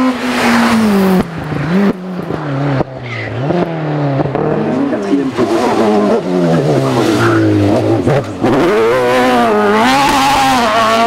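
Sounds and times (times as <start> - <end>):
racing car engine at high revs: 0.0 - 11.0.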